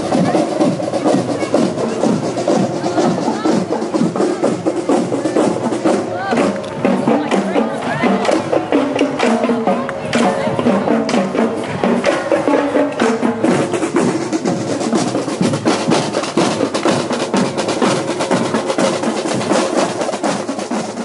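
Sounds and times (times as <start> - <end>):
snare drum strokes and rolls: 0.0 - 21.0.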